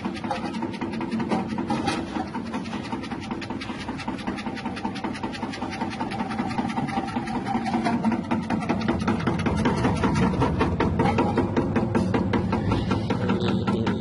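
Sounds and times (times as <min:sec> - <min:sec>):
rapid clatter of clicks: 0:00.0 - 0:14.0
slicing machine motor hum: 0:00.0 - 0:14.0.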